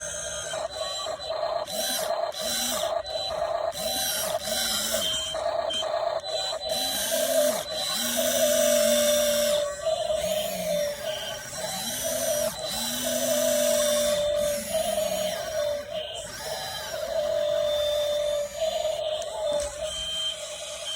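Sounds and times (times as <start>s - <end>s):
toy electric motors whirring: 0.0s - 20.9s.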